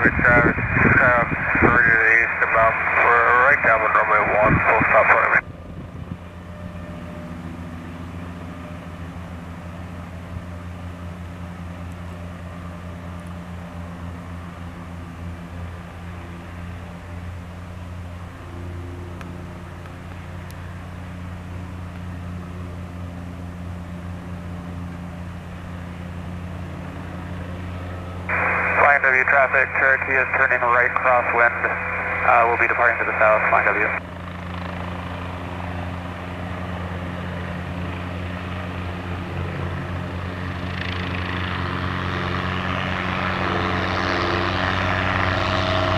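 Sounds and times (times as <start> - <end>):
helicopter hovering: 0.0 - 45.9.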